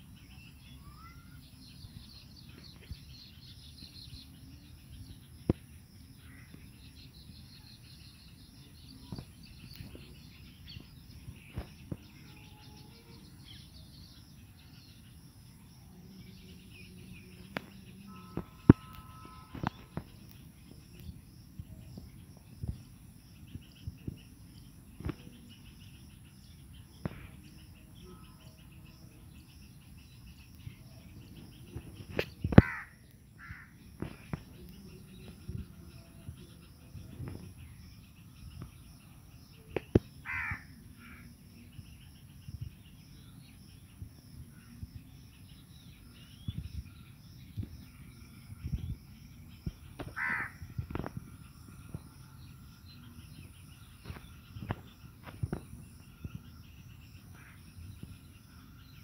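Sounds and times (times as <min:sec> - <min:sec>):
birds chirping faintly: 0:00.0 - 0:59.0
low background noise: 0:00.0 - 0:59.0.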